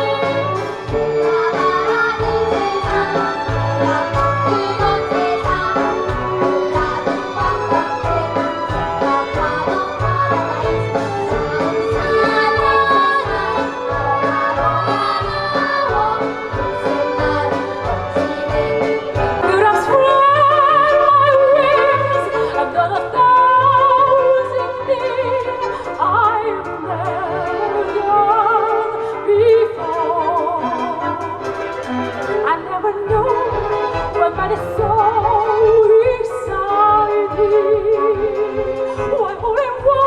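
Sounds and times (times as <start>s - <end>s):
operatic singing with vibrato: 0.0s - 40.0s.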